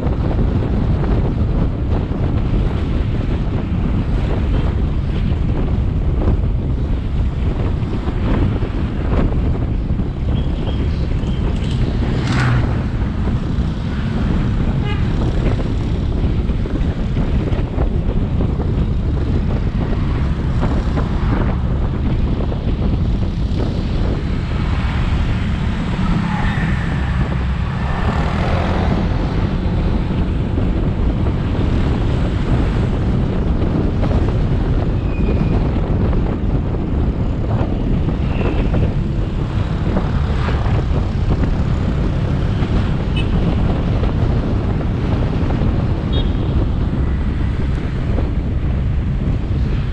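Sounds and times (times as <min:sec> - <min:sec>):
road and traffic noise: 0:00.0 - 0:49.9
wind noise on microphone: 0:00.0 - 0:49.9.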